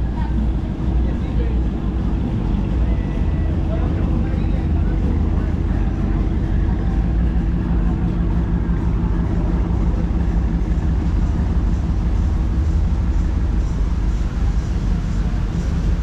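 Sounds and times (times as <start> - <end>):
low rumble of street traffic: 0.0 - 16.0
vehicle engine running close by: 0.0 - 16.0.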